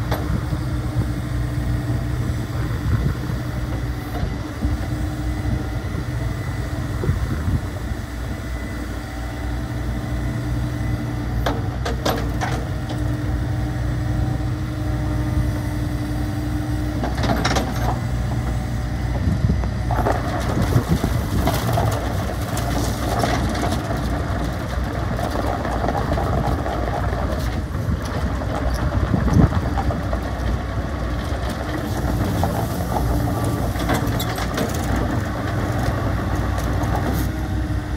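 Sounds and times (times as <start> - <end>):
excavator diesel engine running: 0.0 - 37.9
hydraulics working: 0.0 - 37.9.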